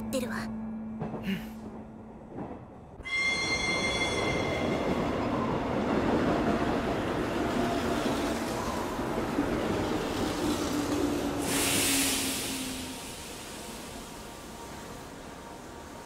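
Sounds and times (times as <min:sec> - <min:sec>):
train rumbling on rails: 0:00.0 - 0:16.0
high squeal of train: 0:03.0 - 0:16.0.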